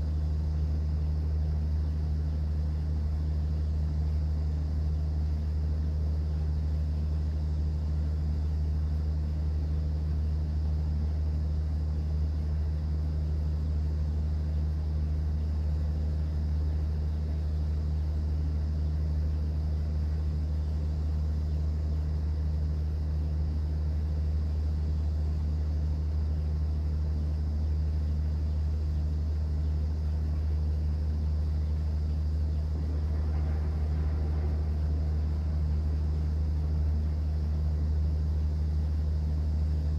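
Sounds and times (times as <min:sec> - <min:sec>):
boat engine drone: 0:00.0 - 0:39.9.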